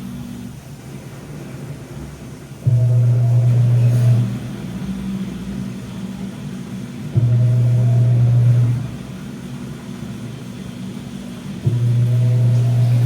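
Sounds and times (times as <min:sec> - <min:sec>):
washing machine drum rumbling: 0:00.0 - 0:13.0
washing machine motor humming: 0:00.0 - 0:13.0.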